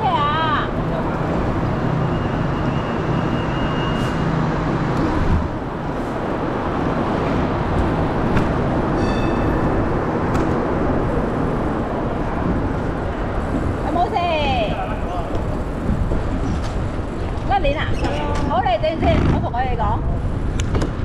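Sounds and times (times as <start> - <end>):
road traffic: 0.0 - 21.0
wind noise: 0.0 - 21.0.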